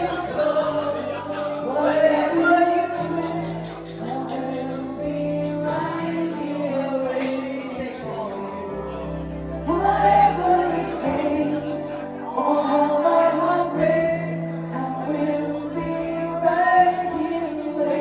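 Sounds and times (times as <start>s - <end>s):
backing music: 0.0s - 18.0s
person singing: 0.0s - 18.0s.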